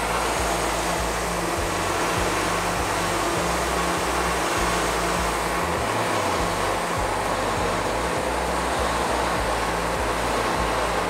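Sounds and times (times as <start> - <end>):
background music: 0.0 - 11.0
sawmill band blade whirring: 0.0 - 11.0.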